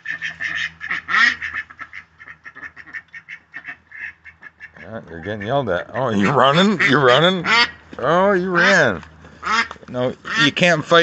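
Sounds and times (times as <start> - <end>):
duck quacking: 0.0 - 11.0.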